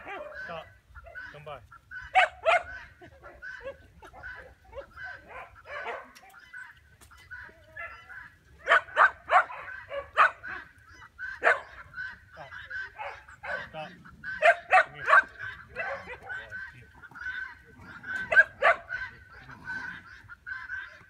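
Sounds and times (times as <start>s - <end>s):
dog barking and yipping: 0.0s - 1.4s, 2.0s - 6.7s, 7.4s - 21.0s.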